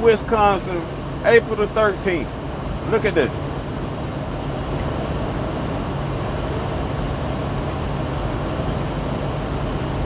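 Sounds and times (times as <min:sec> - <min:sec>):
road noise inside cab: 0:00.0 - 0:10.0
truck engine drone: 0:00.0 - 0:10.0.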